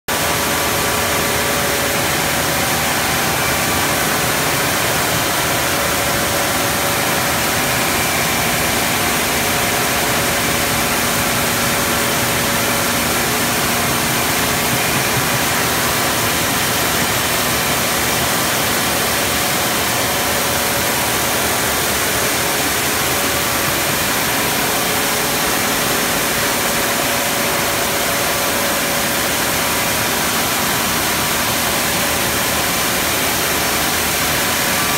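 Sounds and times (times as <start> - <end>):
milling machinery running: 0.1 - 34.9.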